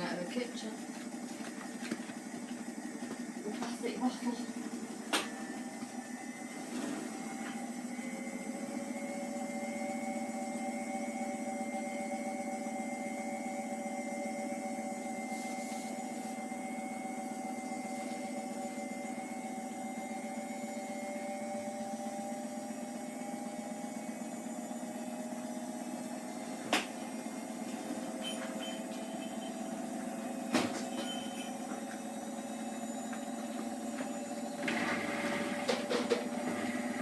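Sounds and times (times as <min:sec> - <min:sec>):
washing machine motor hum: 0:00.0 - 0:37.0.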